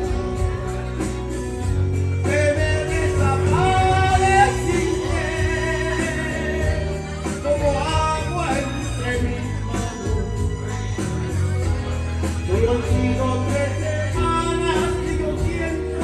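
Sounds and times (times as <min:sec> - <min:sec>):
backing track with bass line: 0:00.0 - 0:16.0
person singing karaoke: 0:00.0 - 0:16.0.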